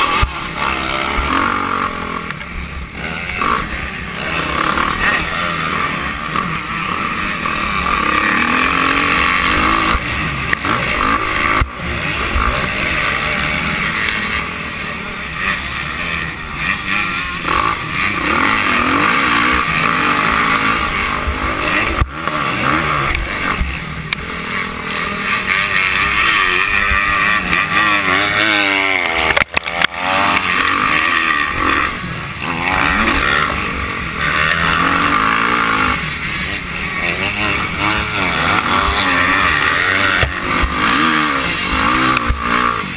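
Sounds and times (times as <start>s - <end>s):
dirt bike engines revving: 0.0s - 42.9s.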